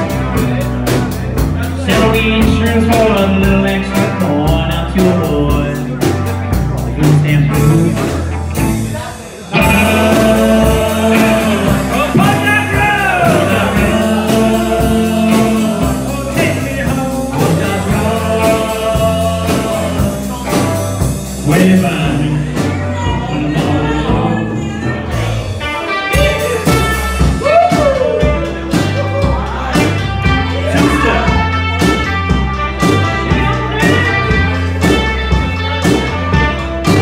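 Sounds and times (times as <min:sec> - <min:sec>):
drums and cymbals: 0:00.0 - 0:37.0
electric guitars: 0:00.0 - 0:37.0
man singing: 0:00.0 - 0:37.0.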